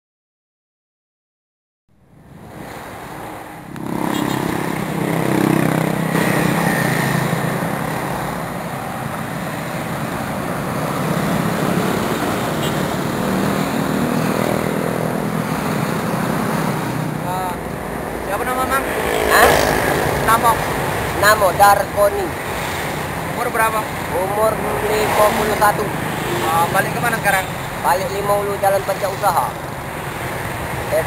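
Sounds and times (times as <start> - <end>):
road traffic passing: 2.0 - 31.0.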